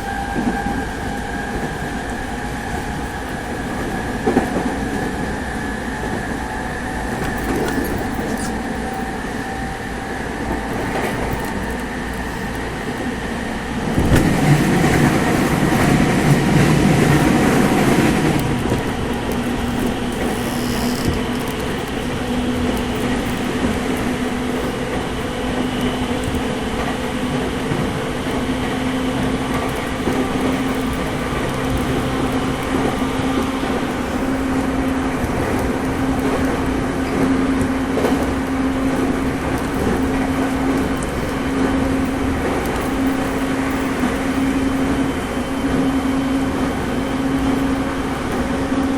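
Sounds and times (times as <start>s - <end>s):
traction motor hum: 0.0s - 48.9s
train wheels rumbling on rails: 0.0s - 48.9s.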